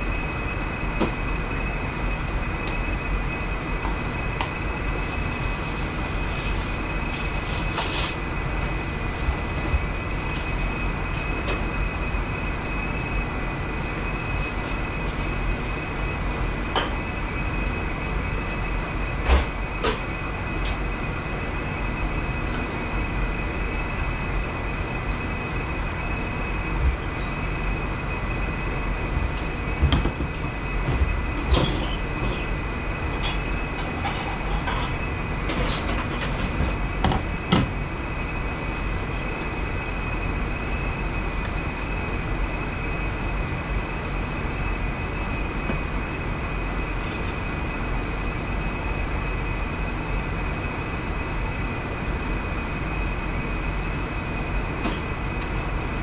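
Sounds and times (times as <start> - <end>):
kitchen ventilation running: 0.0 - 56.0.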